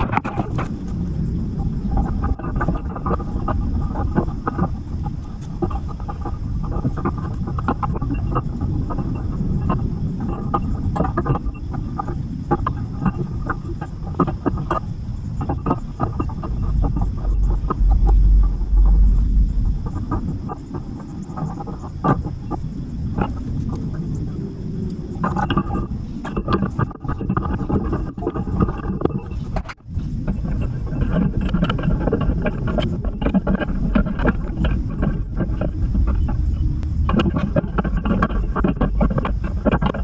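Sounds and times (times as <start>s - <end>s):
low rumble: 0.0s - 40.0s
vines rustling and crackling: 0.0s - 40.0s.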